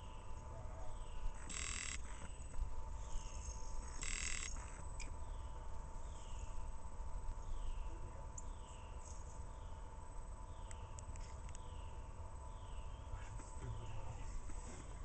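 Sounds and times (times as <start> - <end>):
frogs chirping: 0.0 - 15.0.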